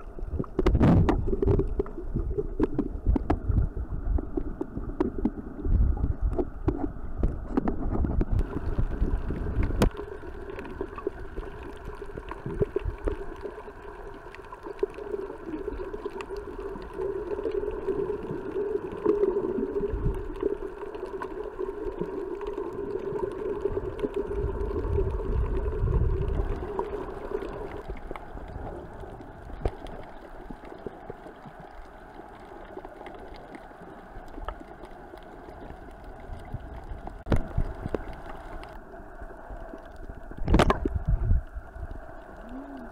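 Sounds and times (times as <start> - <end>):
boat motor drone underwater: 0.0 - 42.9
water rushing: 0.0 - 42.9.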